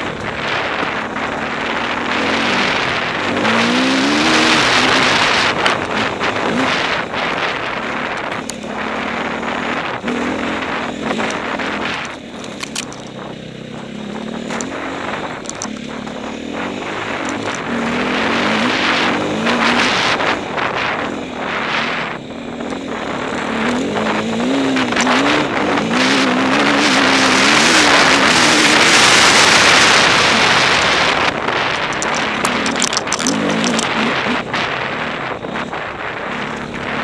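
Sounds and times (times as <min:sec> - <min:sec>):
motorcycle engine revving: 0:00.0 - 0:37.0
wind rushing on microphone: 0:00.0 - 0:37.0.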